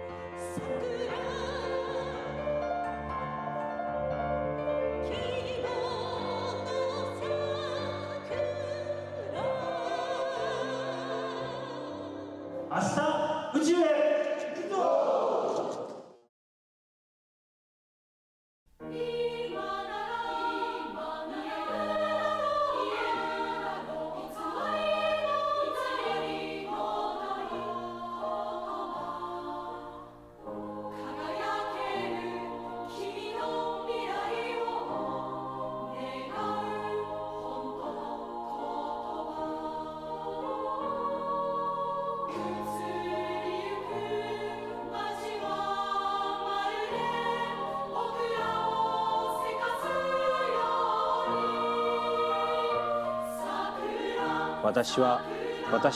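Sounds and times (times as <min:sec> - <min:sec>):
choir singing: 0:00.0 - 0:16.2, 0:18.8 - 0:55.9.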